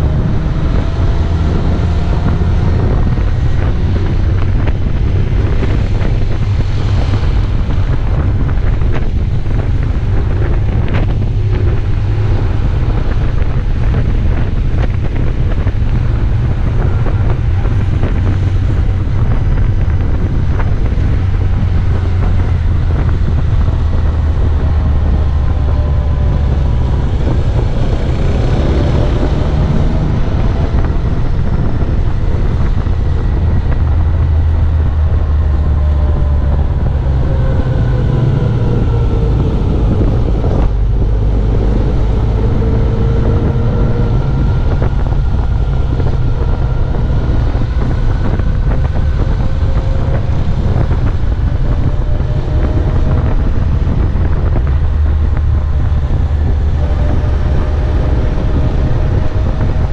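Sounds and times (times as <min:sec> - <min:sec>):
low engine drone: 0:00.0 - 0:59.9
wind noise on microphone: 0:00.0 - 0:59.9.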